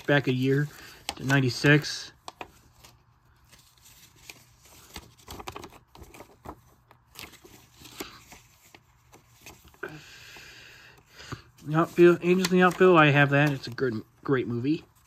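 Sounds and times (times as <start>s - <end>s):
paper rustling and tapping: 0.0s - 9.8s, 11.2s - 15.0s.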